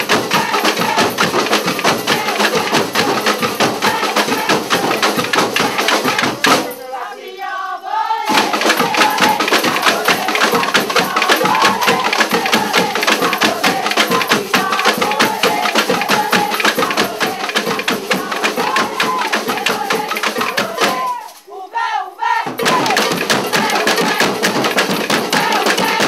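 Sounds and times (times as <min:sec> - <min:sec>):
street band percussion: 0:00.0 - 0:21.5, 0:22.2 - 0:26.0
voices singing along: 0:00.0 - 0:26.0.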